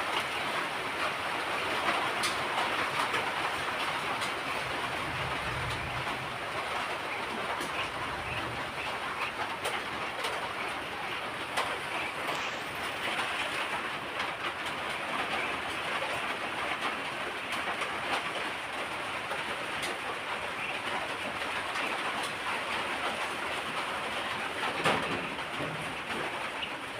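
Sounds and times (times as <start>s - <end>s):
ducks dabbling and snapping: 0.0s - 26.9s.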